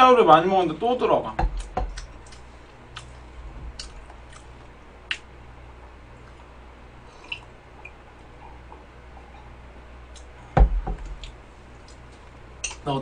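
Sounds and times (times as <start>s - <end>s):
quiet chewing: 1.6s - 10.4s, 11.1s - 12.9s.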